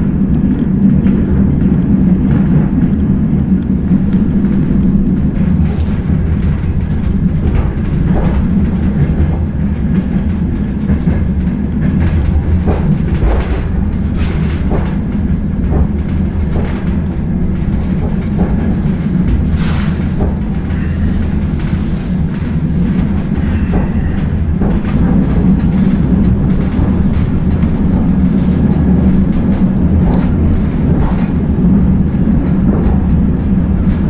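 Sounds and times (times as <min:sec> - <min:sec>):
train rumbling: 0:00.0 - 0:34.0
wheels clacking over rail joints: 0:00.0 - 0:34.0.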